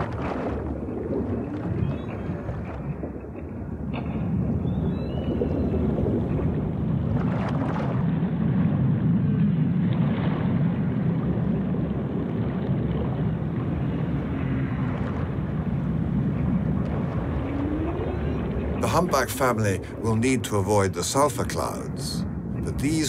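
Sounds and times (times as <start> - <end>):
low underwater rumble: 0.0 - 20.4.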